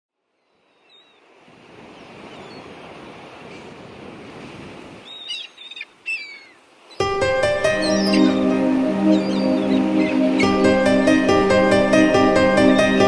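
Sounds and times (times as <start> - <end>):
sea surf washing: 1.1 - 13.0.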